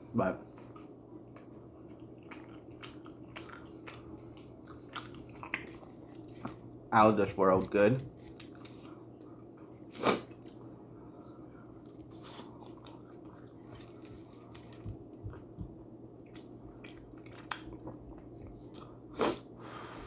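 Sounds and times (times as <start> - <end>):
person chewing: 0.5 - 6.8, 8.1 - 19.9.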